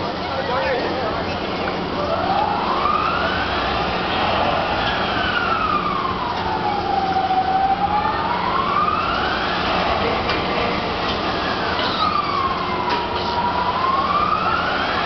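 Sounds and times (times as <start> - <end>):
carnival ride drive whining: 0.0 - 15.0
fairground noise: 0.0 - 15.0.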